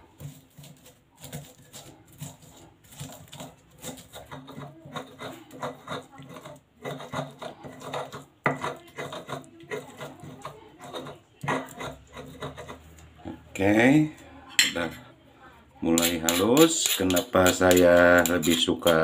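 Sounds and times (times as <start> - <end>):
stone pestle grinding in mortar: 0.0 - 13.0, 15.9 - 19.0.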